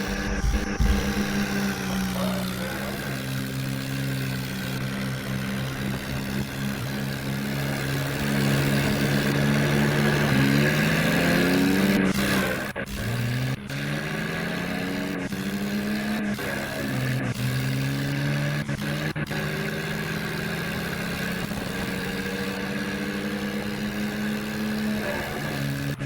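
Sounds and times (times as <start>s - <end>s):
tractor diesel engine revving: 0.0s - 26.0s.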